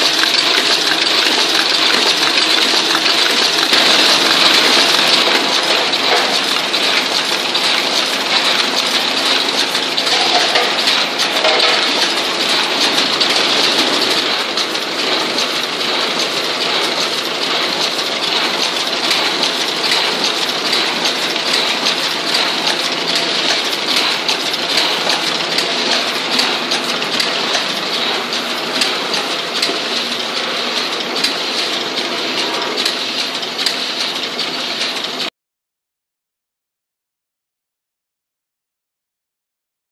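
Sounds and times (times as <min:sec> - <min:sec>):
wrapping machine clattering: 0:00.0 - 0:35.3.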